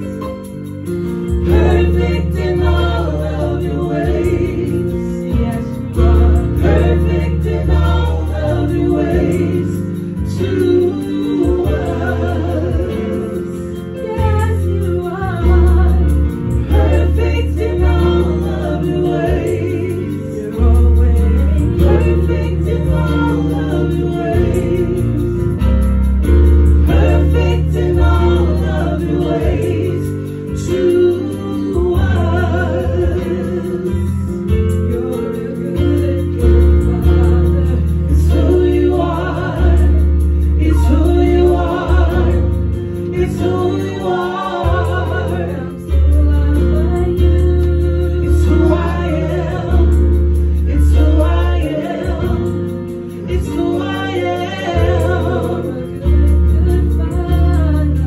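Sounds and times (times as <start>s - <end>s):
bass line: 0.0s - 58.0s
keyboard accompaniment: 0.0s - 58.0s
women and man singing gospel: 1.3s - 58.0s.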